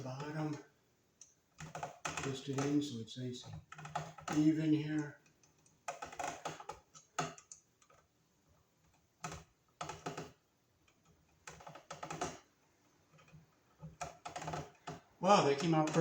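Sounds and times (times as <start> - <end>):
electrical wires twisting and clicking: 0.0 - 0.6, 1.2 - 8.2, 8.8 - 16.0.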